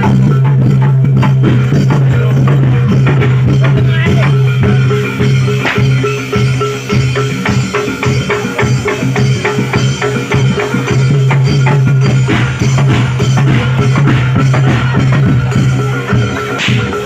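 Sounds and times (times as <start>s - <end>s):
drums and hand percussion: 0.0s - 17.0s.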